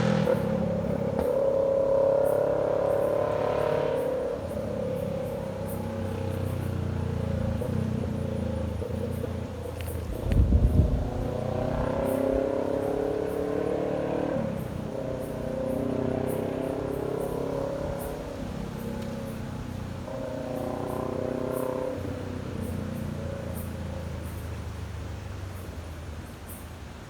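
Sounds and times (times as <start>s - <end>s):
motorcycle engine revving: 0.0s - 25.7s.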